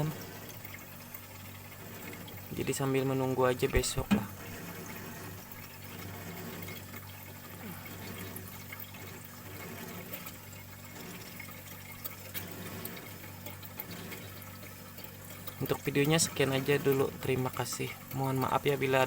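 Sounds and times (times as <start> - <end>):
refrigerator compressor hum: 0.0 - 19.0.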